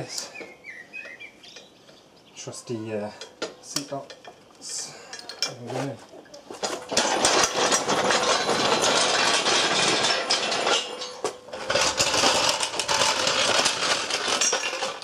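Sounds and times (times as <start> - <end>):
hoist casters rattling on concrete: 2.4 - 15.0.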